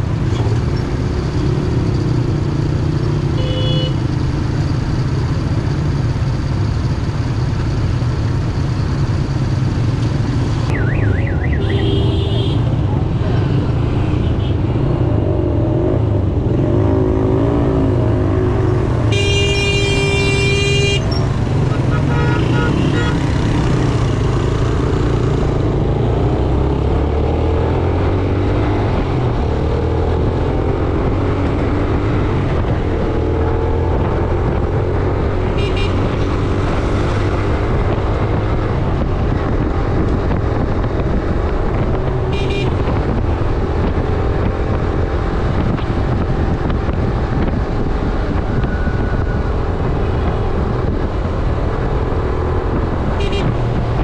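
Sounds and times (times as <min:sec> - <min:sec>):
road and wind noise: 0:00.0 - 0:54.0
motorcycle engine revving: 0:09.5 - 0:54.0.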